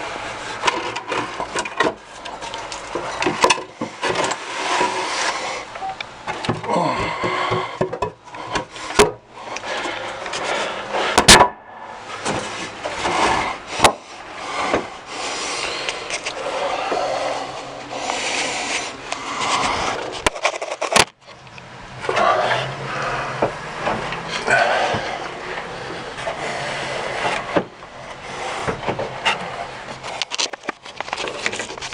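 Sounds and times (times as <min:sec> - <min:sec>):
rubbing and scraping: 0:00.0 - 0:31.9.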